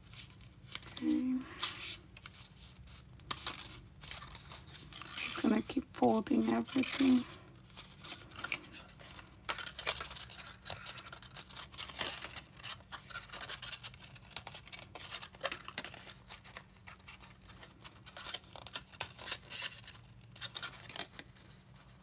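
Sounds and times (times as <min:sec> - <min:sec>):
cardstock folding and creasing: 0:00.0 - 0:22.0.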